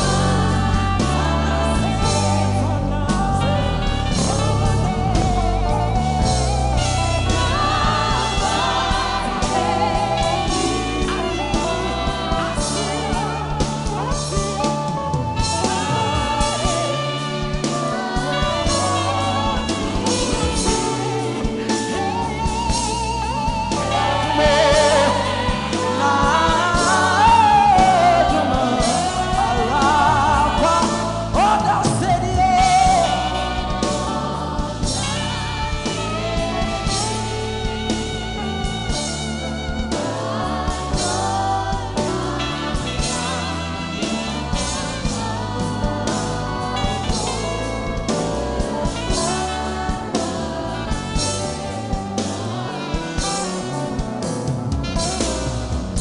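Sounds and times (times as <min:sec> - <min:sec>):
gospel band with bass and drums: 0:00.0 - 0:56.0
singers: 0:00.0 - 0:56.0.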